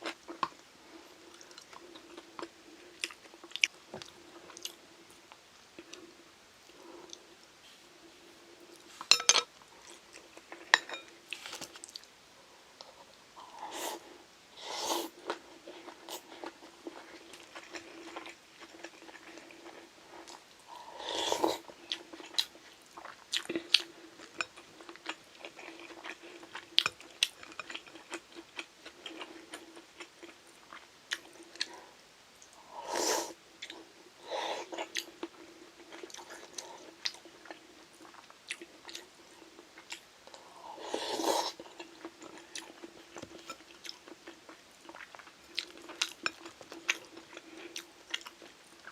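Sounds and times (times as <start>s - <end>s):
chewing and crunching food: 0.0s - 7.3s, 15.2s - 32.6s, 33.6s - 48.9s
faint steady hum: 0.0s - 48.9s.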